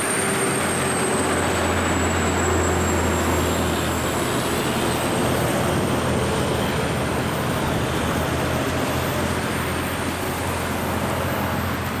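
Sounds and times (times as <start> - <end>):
truck diesel engine droning: 0.0 - 12.0
vehicles passing: 1.2 - 12.0.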